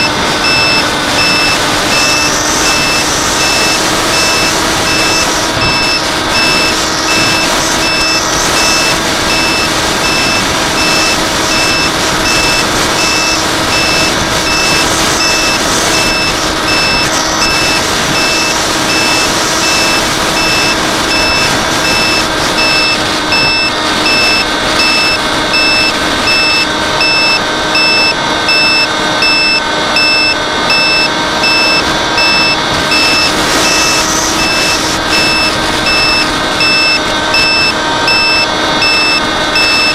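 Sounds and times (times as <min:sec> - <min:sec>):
electronic beep: 0:00.0 - 0:39.9
mechanical hum: 0:00.0 - 0:39.9.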